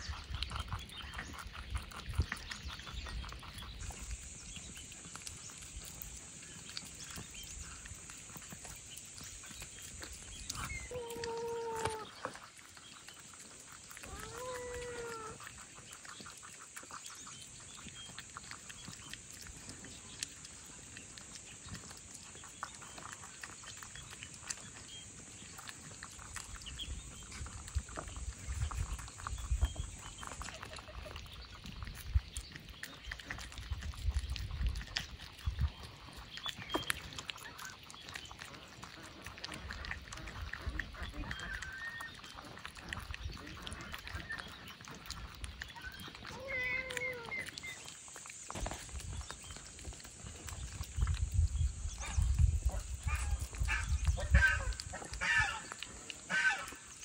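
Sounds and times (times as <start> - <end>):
animals chewing and lapping: 0.0 - 57.0.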